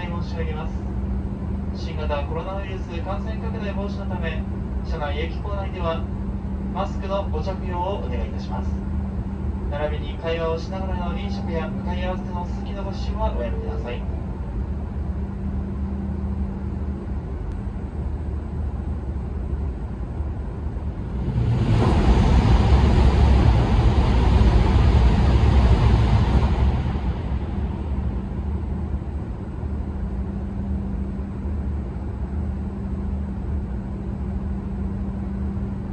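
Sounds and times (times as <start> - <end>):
train cabin hum: 0.0 - 35.9
train passing rush of air: 5.6 - 35.9.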